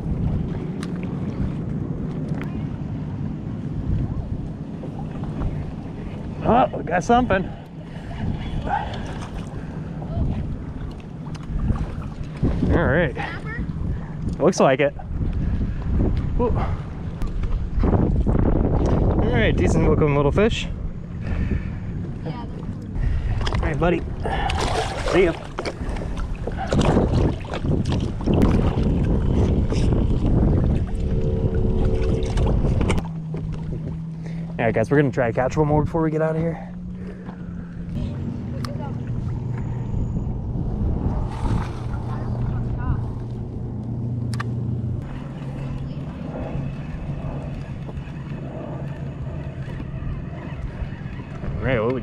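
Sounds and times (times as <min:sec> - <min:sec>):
low engine hum: 0:00.0 - 0:52.0
water noise: 0:00.0 - 0:52.0
wind rumbling on microphone: 0:00.0 - 0:52.0.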